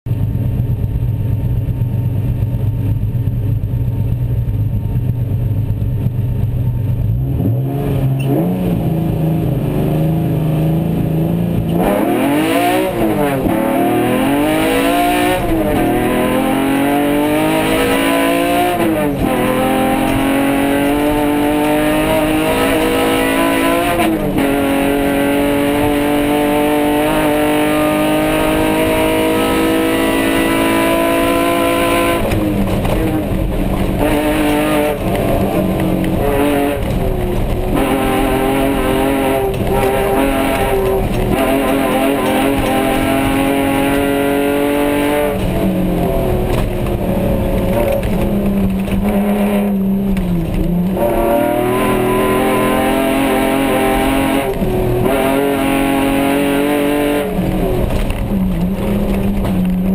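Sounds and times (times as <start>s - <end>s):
race car engine revving: 6.8s - 59.9s
gear upshifts: 11.6s - 59.9s.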